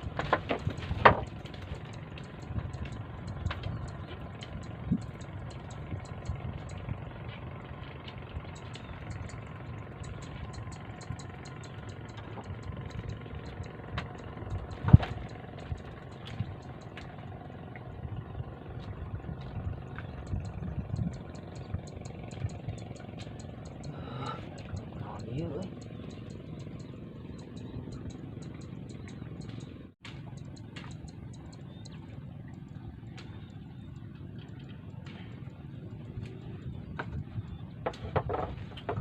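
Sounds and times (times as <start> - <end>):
engine running with low rumble: 0.0 - 39.0
light regular ticking: 0.0 - 39.0.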